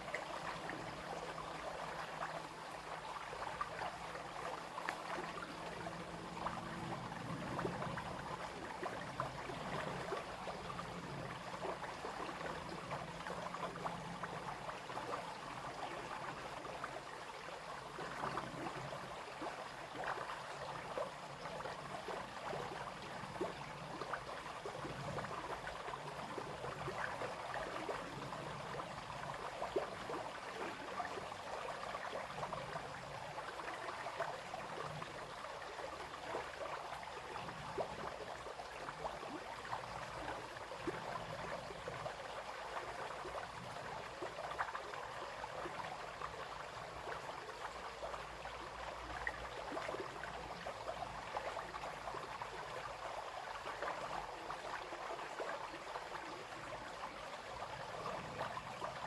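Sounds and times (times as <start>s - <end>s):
brook babbling and splashing: 0.0s - 59.0s.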